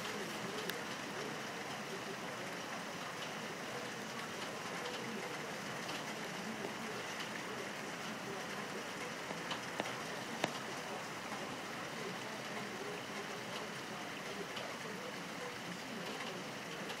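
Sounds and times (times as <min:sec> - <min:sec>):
hail falling: 0:00.0 - 0:17.0
hailstones ticking on bird feeder: 0:00.0 - 0:17.0.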